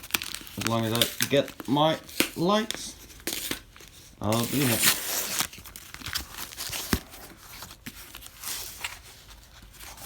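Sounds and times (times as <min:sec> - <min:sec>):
packing material rustling: 0:00.0 - 0:10.0.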